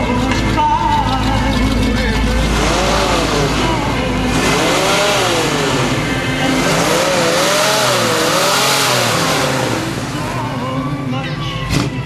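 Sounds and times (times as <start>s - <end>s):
cars passing: 0.0s - 12.0s
tone rising and falling: 1.0s - 11.0s.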